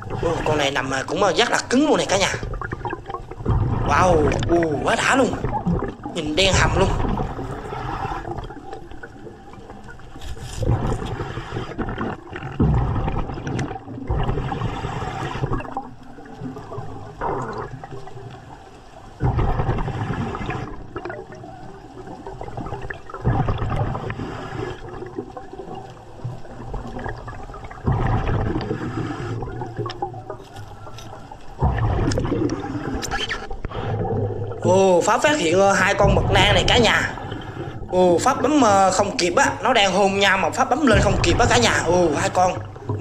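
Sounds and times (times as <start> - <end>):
underwater bubbles gurgling: 0.0 - 43.0.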